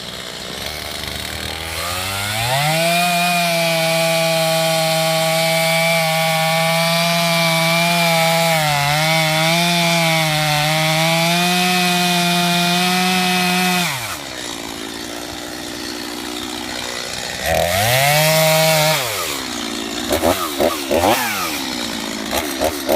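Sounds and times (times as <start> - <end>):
chainsaw cutting wood and revving: 0.0 - 22.9.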